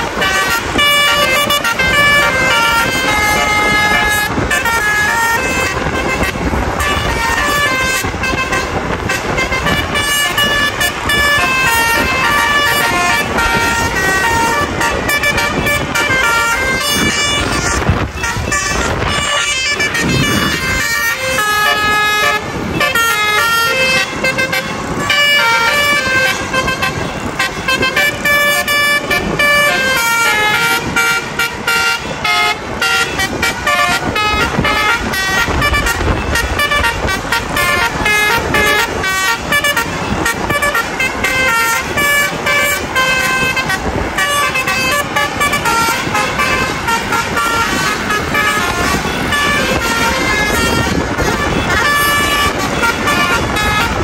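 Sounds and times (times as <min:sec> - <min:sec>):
musical bus horns playing a tune: 0:00.0 - 0:54.0.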